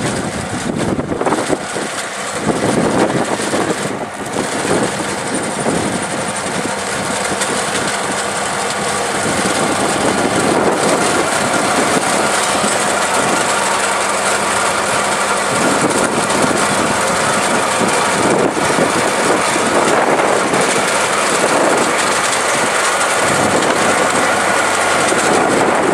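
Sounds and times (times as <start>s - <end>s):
pruning machine cutting canes: 0.0s - 25.9s
tractor engine running: 0.0s - 25.9s.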